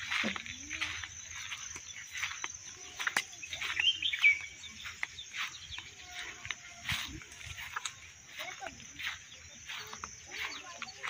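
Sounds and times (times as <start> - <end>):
bird calls: 0.0 - 11.0
footsteps in dry grass: 0.0 - 11.0
insects trilling: 0.0 - 11.0.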